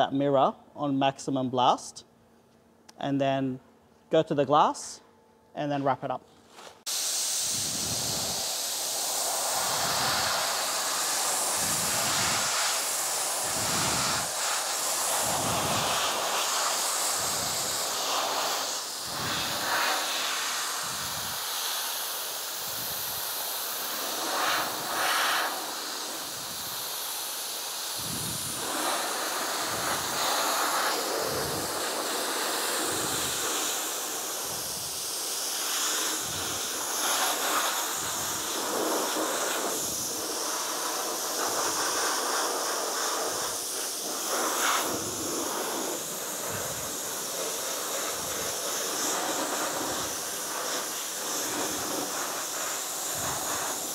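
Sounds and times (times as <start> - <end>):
dry ice blaster hissing: 6.8 - 53.9.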